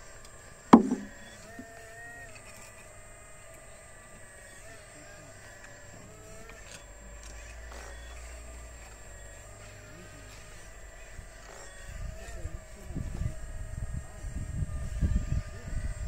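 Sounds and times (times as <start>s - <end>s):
model excavator whine: 0.0s - 16.0s.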